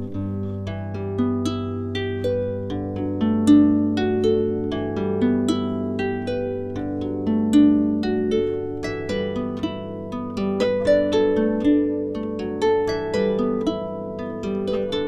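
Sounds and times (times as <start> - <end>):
plucked harp-like notes: 0.0 - 15.0.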